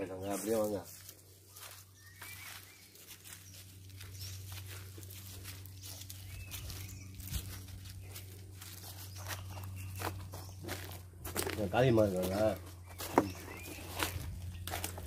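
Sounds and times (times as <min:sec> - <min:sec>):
footsteps on dry leaves: 0:00.1 - 0:15.0
faint bird chirp: 0:01.2 - 0:11.0, 0:12.6 - 0:15.0.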